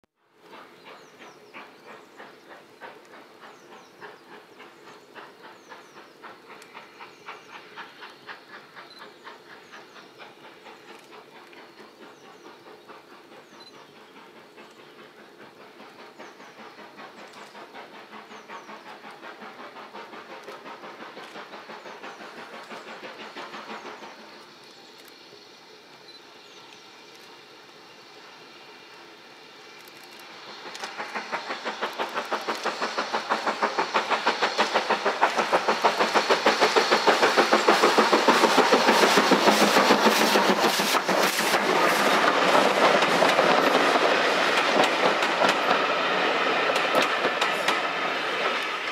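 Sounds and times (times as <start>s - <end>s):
steam locomotive chuffing: 0.2s - 48.9s
train rumbling: 0.2s - 48.9s.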